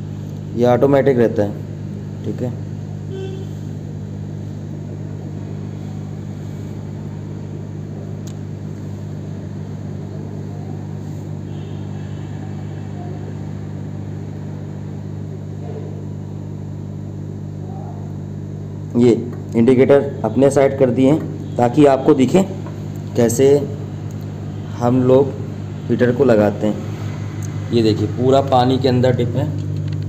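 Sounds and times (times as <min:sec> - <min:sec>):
air pump humming: 0:00.0 - 0:30.0.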